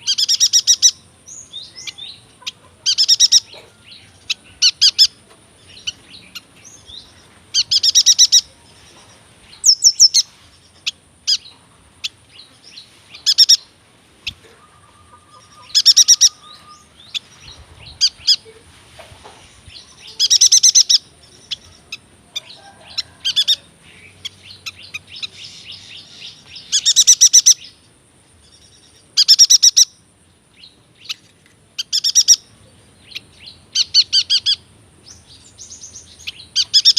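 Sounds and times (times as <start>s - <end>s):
soft bird chirps and twitters: 0.0s - 18.6s, 19.2s - 36.9s.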